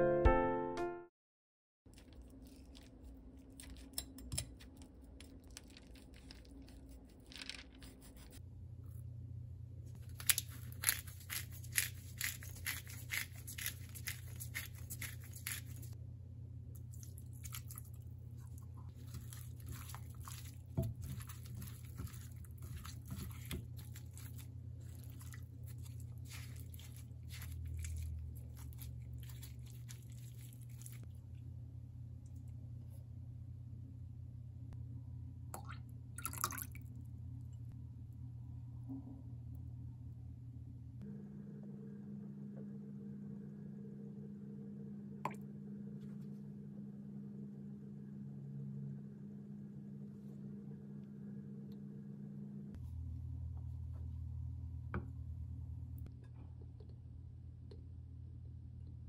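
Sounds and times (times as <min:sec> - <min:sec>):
steady low hum: 0:06.4 - 0:59.0.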